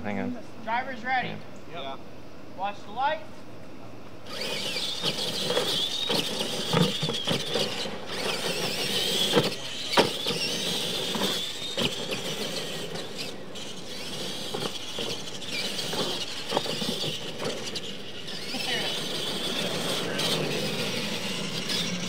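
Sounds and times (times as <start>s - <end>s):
electric motors whining: 4.1s - 22.0s.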